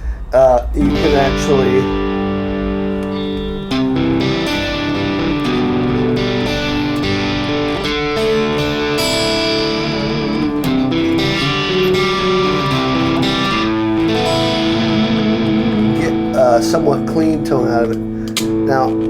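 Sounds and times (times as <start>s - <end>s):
clean electric guitar: 0.6s - 19.0s.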